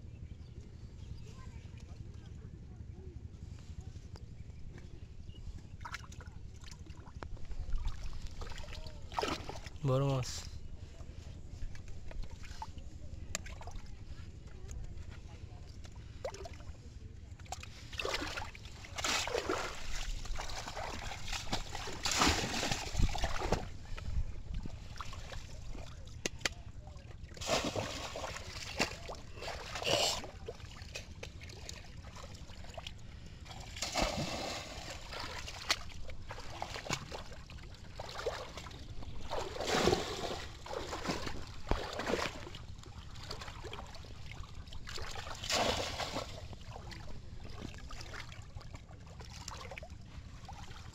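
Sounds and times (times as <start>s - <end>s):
person wading through water: 4.8s - 50.9s
water splashing and sloshing: 4.8s - 50.9s.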